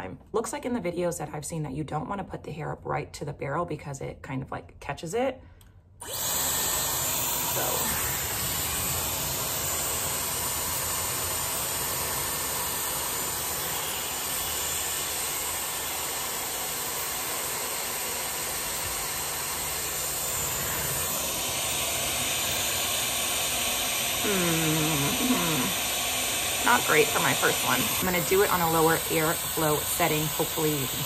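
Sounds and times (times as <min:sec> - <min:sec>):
hair styler blowing air: 0:06.0 - 0:31.0.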